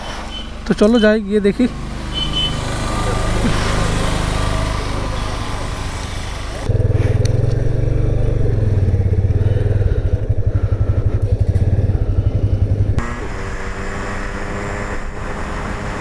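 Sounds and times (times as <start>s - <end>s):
motorcycle engine pulsing: 0.0s - 16.0s
smooth quiet engine: 1.0s - 16.0s.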